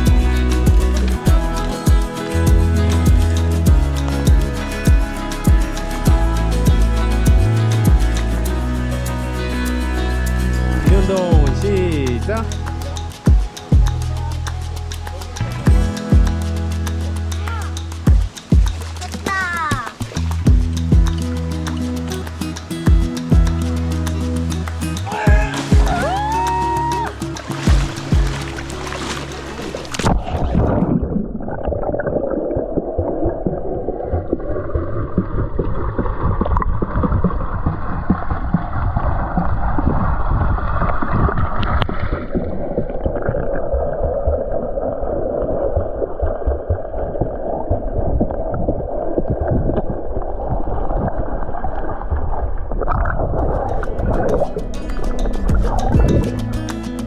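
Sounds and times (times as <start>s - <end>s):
underwater stream rushing: 0.0s - 57.0s.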